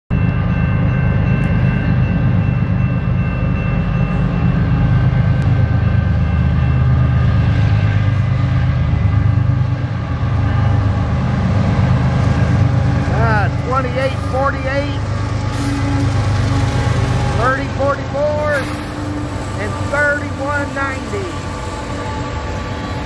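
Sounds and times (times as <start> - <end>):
diesel locomotive engine rumble: 0.1 - 23.0.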